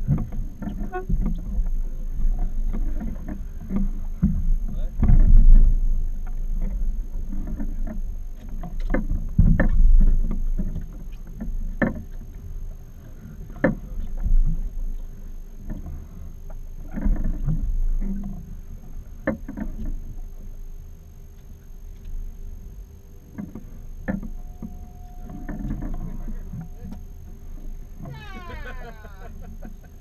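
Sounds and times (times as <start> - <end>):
water against boat hull: 0.0 - 30.0
wind: 0.0 - 30.0.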